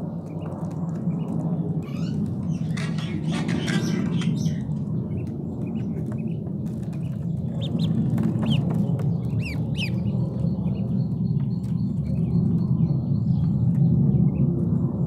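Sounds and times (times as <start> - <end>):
ducklings peeping: 0.0 - 15.0
steady low rumble: 0.0 - 15.0.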